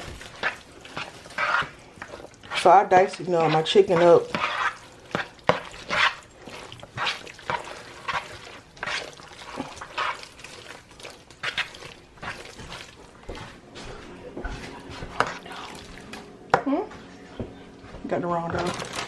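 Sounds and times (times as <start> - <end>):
spoon stirring thick wet filling: 0.0 - 19.0.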